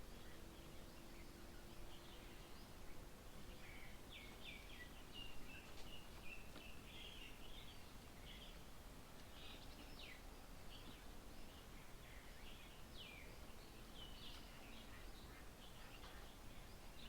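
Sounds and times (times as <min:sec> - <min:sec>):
birds chirping faintly: 0:00.0 - 0:17.0
low outdoor background noise: 0:00.0 - 0:17.0.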